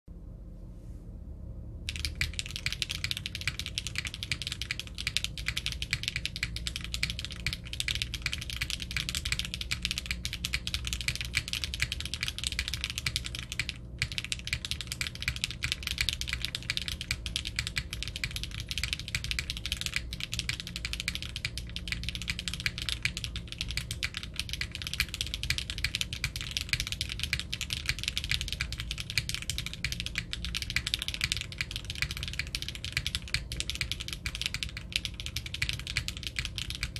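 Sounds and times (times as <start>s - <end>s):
fast mechanical keyboard typing: 1.9s - 36.9s.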